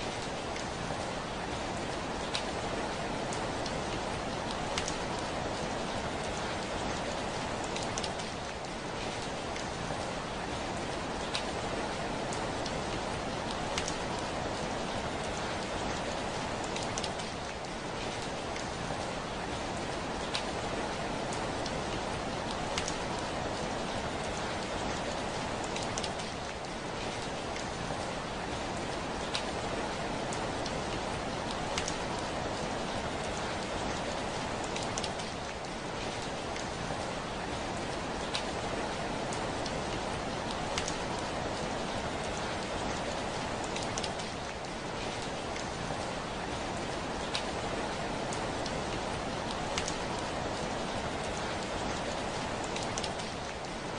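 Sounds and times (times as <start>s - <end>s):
heavy rain on a window: 0.0s - 53.9s
raindrop ticks: 2.1s - 10.1s, 10.7s - 19.0s, 19.7s - 53.8s.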